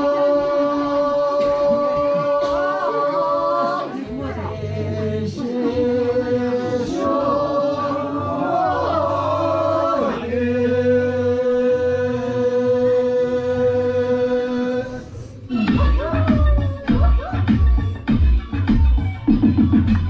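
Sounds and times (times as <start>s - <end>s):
group singing slow chant: 0.0s - 16.5s.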